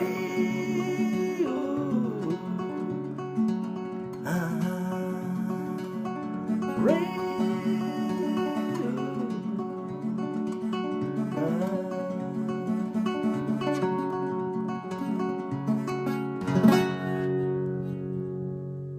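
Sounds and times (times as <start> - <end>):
acoustic guitar playing: 0.0 - 18.9.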